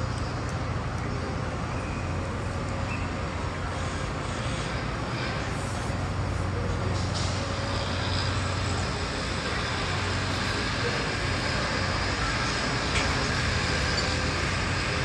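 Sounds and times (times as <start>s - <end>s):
machinery rumble: 0.0s - 15.0s
road traffic: 0.0s - 15.0s.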